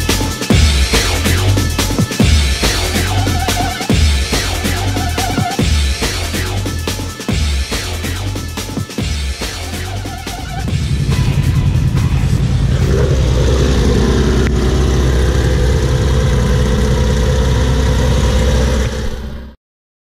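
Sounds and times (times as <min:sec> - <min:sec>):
buggy engine idling: 0:00.0 - 0:19.4.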